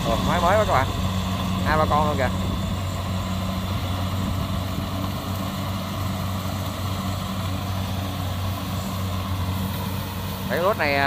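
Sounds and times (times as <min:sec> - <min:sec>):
combine harvester diesel engine running: 0:00.0 - 0:11.0.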